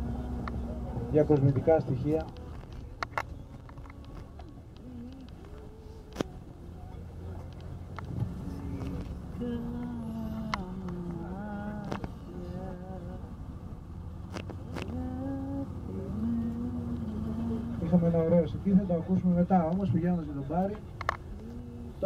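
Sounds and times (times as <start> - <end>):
coach engine and road rumble: 0.0 - 22.0
passengers talking indistinctly: 0.0 - 22.0.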